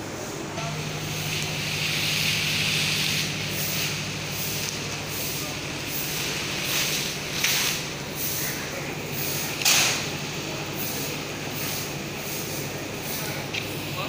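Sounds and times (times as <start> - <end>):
conveyor motor hum: 0.0 - 14.0
belt hissing over rollers: 0.7 - 14.0.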